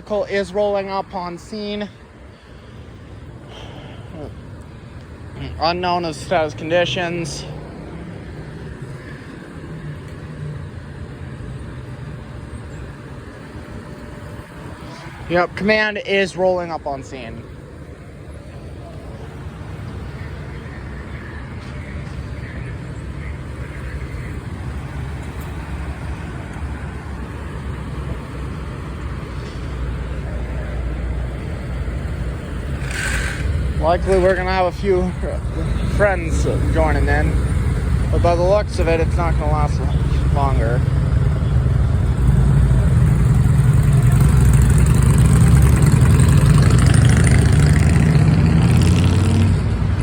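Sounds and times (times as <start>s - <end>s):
low rumble of engines: 0.0s - 50.0s.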